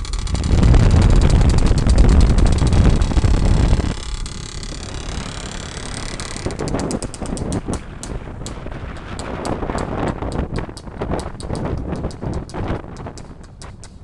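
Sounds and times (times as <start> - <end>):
two-stroke motorcycle engine: 0.0 - 13.6
irregular sharp crackles: 0.0 - 14.0
wind and road noise: 0.0 - 14.0.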